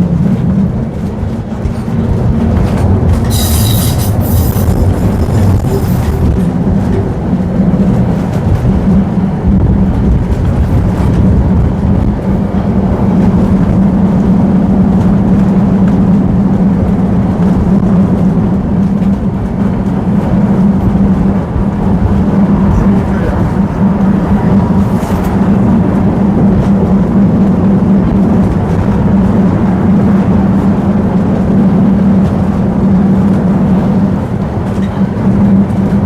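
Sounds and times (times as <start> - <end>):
tram wheels rumbling on track: 0.0 - 36.0.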